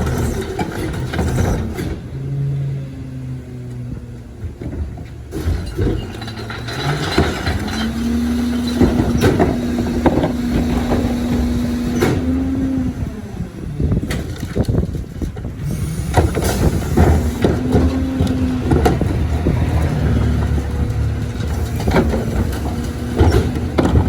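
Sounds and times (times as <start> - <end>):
garbage truck machinery drone: 0.0 - 24.0.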